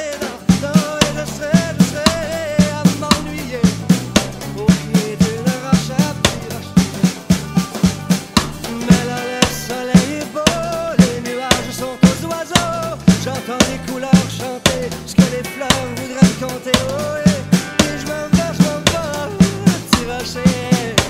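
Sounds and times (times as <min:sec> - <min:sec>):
song with snare drum and bass: 0:00.0 - 0:21.0.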